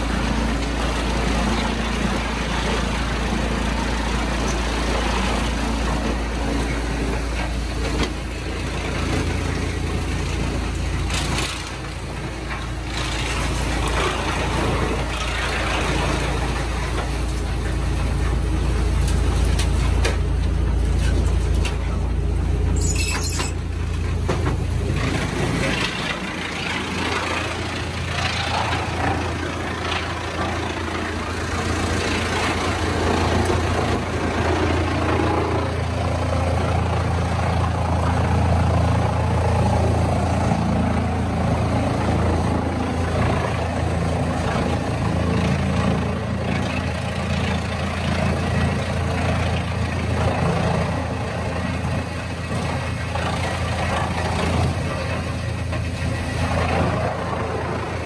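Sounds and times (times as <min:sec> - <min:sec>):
heavy engine humming: 0:00.0 - 0:58.0.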